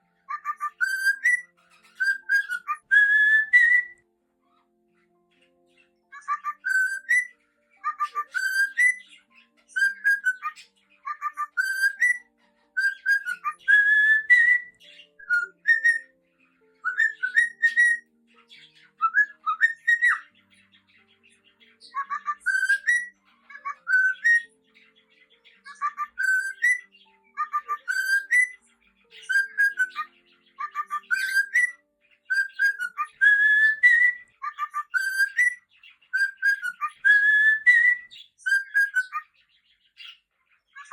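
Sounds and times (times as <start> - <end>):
cockatiel whistling: 0.3 - 4.0, 6.1 - 16.2, 16.8 - 20.4, 21.8 - 24.6, 25.6 - 39.4.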